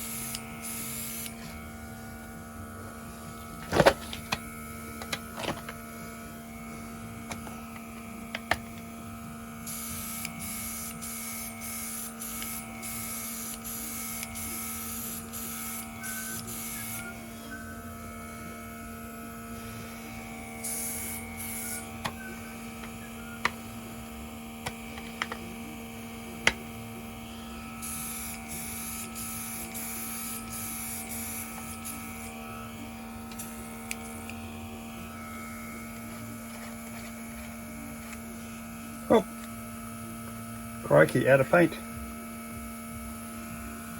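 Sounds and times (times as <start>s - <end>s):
small compressor humming: 0.0s - 43.9s.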